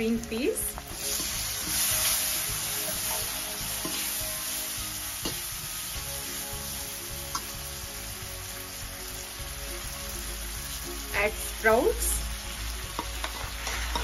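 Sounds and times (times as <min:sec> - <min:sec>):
peas sizzling in hot oil: 0:00.0 - 0:14.0.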